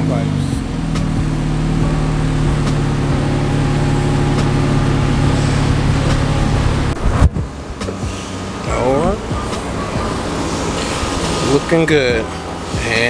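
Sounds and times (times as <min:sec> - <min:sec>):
car exhaust droning: 0:00.0 - 0:13.0.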